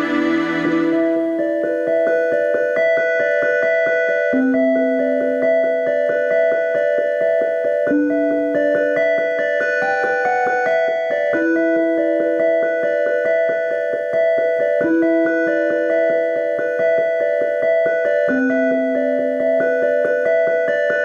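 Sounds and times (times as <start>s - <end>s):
piano keyboard playing: 0.0s - 21.0s.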